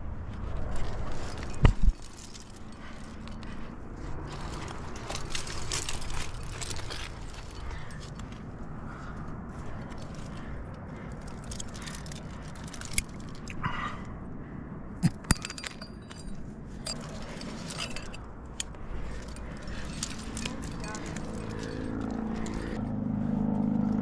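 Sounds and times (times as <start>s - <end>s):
climbing gear clinking: 0.3s - 14.3s, 15.0s - 22.8s.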